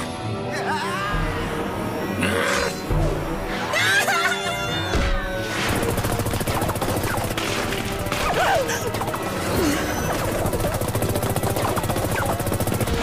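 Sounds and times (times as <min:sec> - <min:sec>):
action score music: 0:00.0 - 0:13.0.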